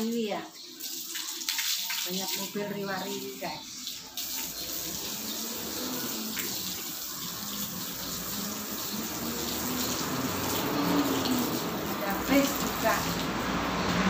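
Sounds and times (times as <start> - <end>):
water from hose splashing on floor: 0.0 - 14.0.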